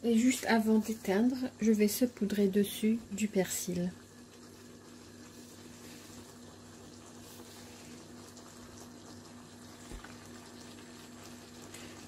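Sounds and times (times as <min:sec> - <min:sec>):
low steady hum: 0:00.0 - 0:12.0
sauce bubbling in a pan: 0:00.0 - 0:12.0.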